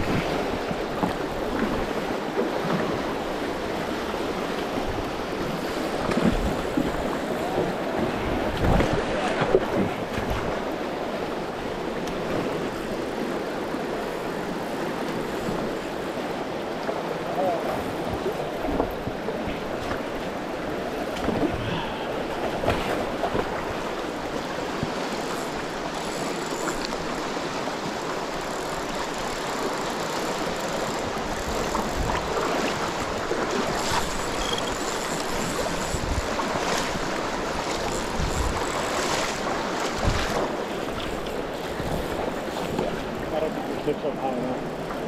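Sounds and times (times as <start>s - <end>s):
river current rushing: 0.0s - 45.0s.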